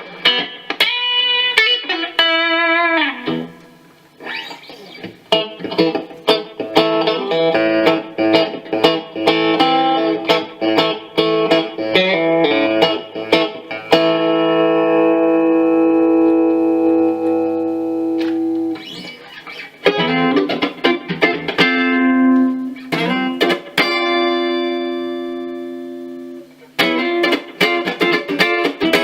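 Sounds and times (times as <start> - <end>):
electric guitar through amplifier: 0.0 - 29.0.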